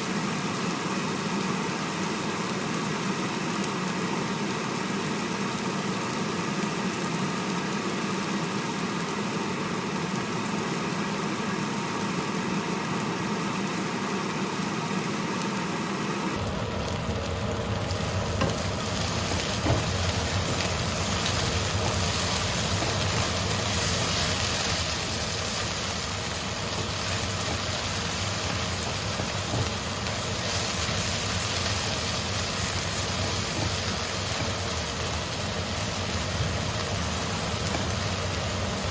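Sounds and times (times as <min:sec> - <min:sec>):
food sizzling in a pan: 0:00.0 - 0:38.9
steady fan hum: 0:00.0 - 0:38.9.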